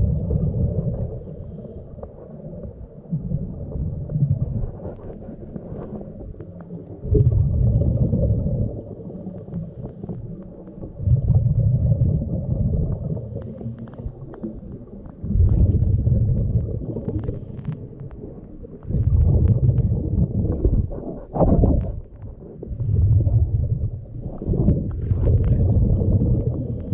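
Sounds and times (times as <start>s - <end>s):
faint clicks and crackle: 0.0s - 26.9s
muffled underwater rumbling: 0.0s - 26.9s.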